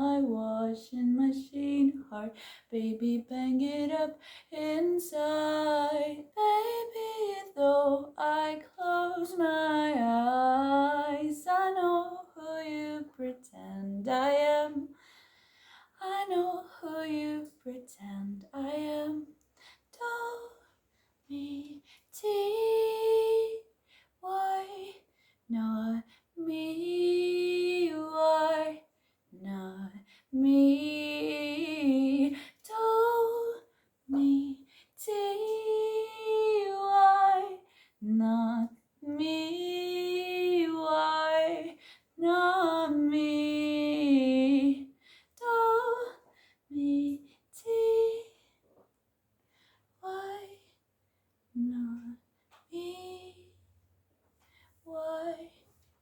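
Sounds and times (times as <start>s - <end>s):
woman singing: 0.0s - 15.0s, 16.0s - 48.5s, 50.0s - 50.7s, 51.6s - 53.6s, 54.8s - 55.7s.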